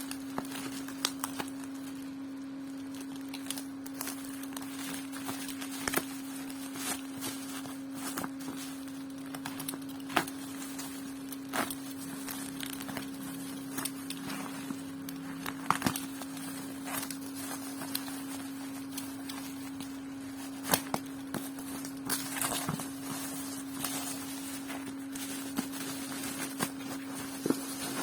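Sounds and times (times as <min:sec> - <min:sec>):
packaging crinkling and tearing: 0:00.0 - 0:28.0
steady low hum: 0:00.0 - 0:28.0.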